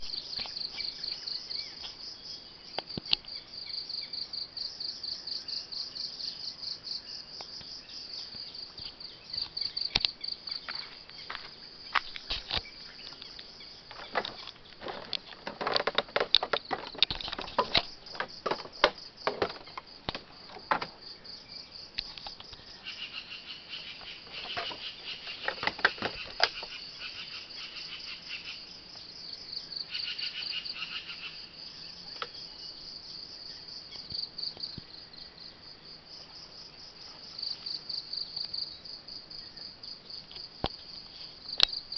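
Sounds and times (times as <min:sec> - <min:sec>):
insects trilling: 0:00.0 - 0:41.9
lower-pitched insect trill: 0:00.0 - 0:41.9.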